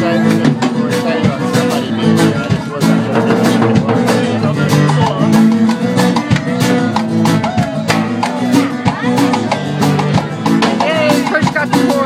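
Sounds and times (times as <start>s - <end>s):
drum and cymbal hits: 0.0s - 12.0s
live band playing: 0.0s - 12.0s
sustained bass notes: 0.0s - 12.0s.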